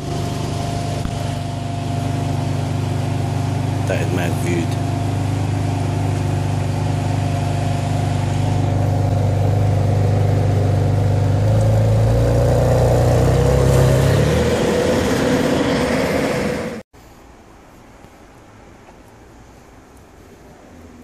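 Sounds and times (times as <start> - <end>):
car engine idling: 0.0 - 16.8
car pulling away at low revs: 0.0 - 16.8.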